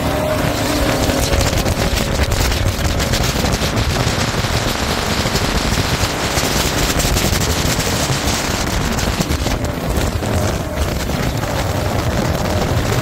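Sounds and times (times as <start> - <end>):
jet boat engine: 0.0 - 13.0
rushing water: 0.0 - 13.0
wind buffeting microphone: 0.0 - 13.0.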